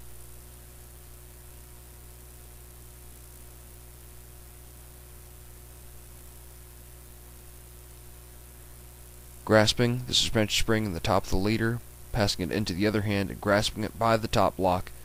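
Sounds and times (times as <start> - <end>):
faint hiss: 0.0 - 15.0
low electrical hum: 0.0 - 15.0.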